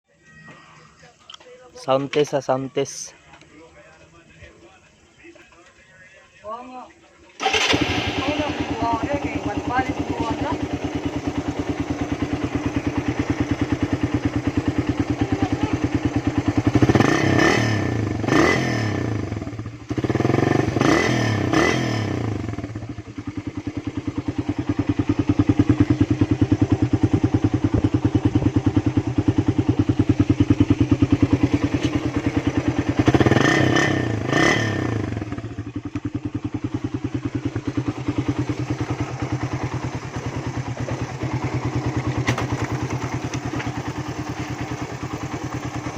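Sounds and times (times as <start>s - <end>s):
engine idling and revving: 7.4s - 45.9s.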